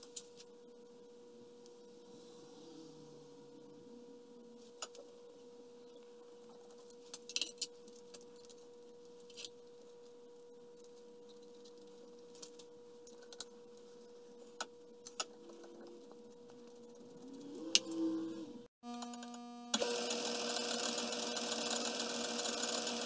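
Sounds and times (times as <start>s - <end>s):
faint steady hum: 0.0s - 19.8s.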